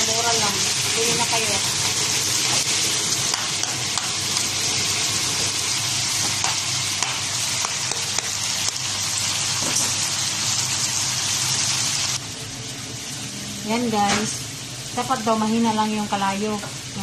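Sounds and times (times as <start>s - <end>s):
deep-frying sizzle with pops: 0.0s - 17.0s.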